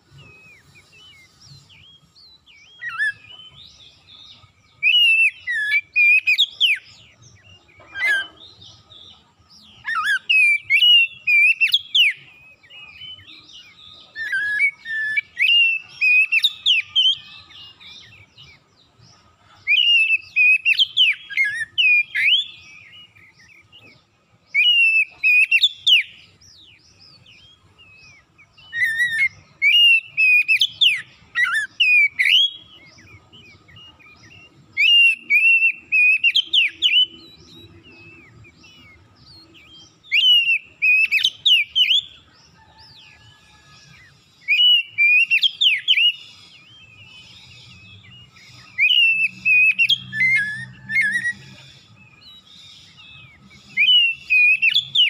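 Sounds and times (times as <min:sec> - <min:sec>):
bird singing whistled phrases: 0:00.0 - 0:08.9, 0:09.6 - 0:18.7, 0:19.6 - 0:55.0.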